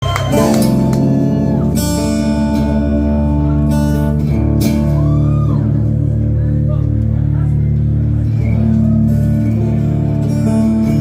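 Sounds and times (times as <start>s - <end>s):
guitar strummed chords: 0.0s - 11.0s
live rock band music: 0.0s - 11.0s.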